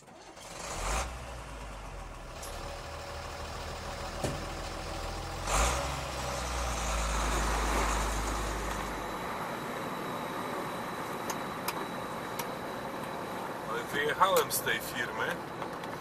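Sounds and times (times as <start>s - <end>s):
diesel truck engine rumbling: 0.0s - 16.0s.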